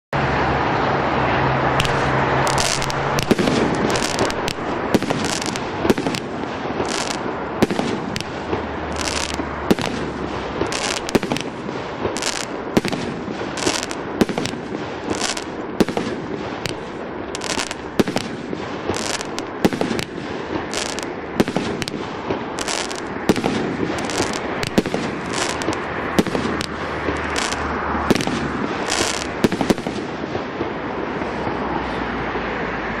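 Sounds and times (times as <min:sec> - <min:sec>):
firework bursts: 0:01.7 - 0:31.8
firework cake bangs: 0:01.8 - 0:30.5.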